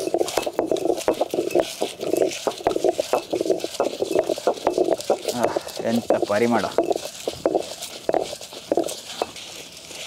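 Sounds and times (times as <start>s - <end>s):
stone grinding on stone: 0.0s - 10.0s.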